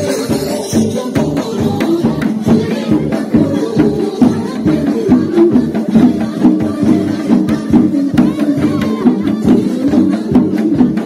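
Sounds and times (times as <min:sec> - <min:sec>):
lively dance music: 0:00.0 - 0:11.0.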